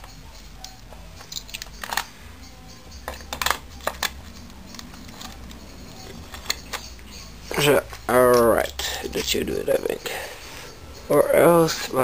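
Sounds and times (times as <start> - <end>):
metallic clicks of engine parts: 0.0 - 10.7.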